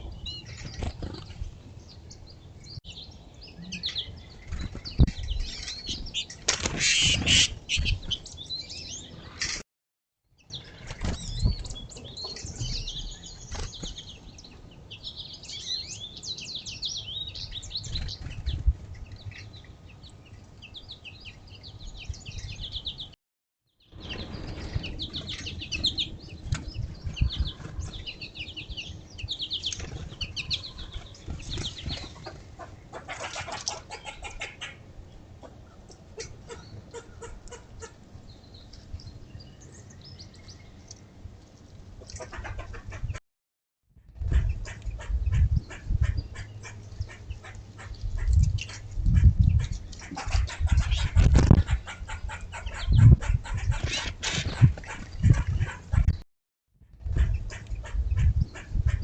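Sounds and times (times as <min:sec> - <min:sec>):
songbirds chirping and twittering: 0:00.0 - 0:09.6, 0:10.2 - 0:43.2, 0:43.9 - 0:56.2, 0:56.8 - 0:59.0.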